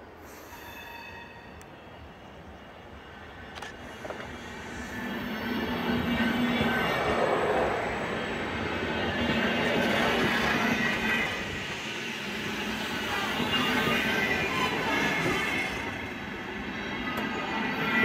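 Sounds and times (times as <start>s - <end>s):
train wheels rolling: 3.4s - 18.0s.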